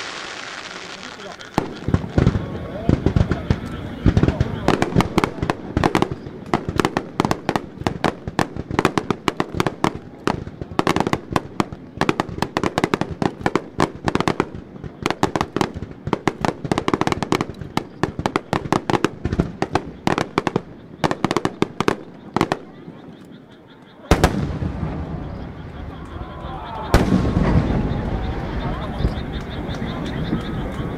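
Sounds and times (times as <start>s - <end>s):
fireworks bursting and crackling: 0.0s - 30.9s.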